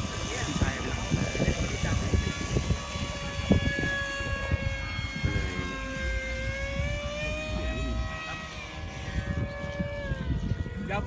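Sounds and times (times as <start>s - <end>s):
model aircraft engine buzzing: 0.0s - 11.0s
wind rumble on microphone: 0.0s - 11.0s.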